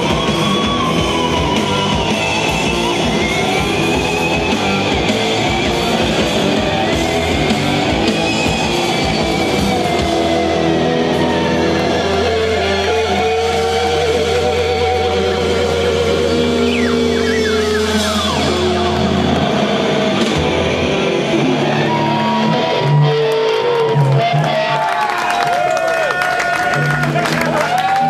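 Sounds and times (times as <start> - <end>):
steady low drone: 0.0 - 24.1
wavering guitar tones: 0.0 - 24.7
rock band playing loud: 0.0 - 28.0.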